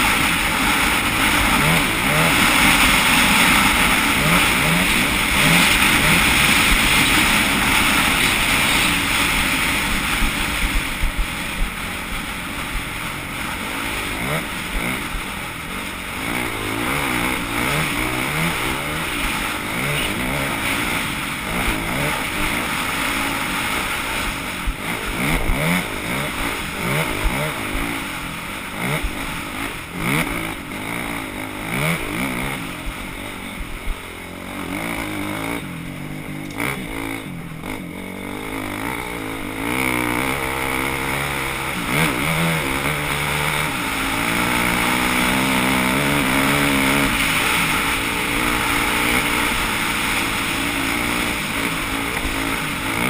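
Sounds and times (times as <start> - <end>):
racing engine revving: 0.0 - 11.2, 12.6 - 15.4, 16.1 - 23.4, 24.6 - 33.6, 34.2 - 53.0.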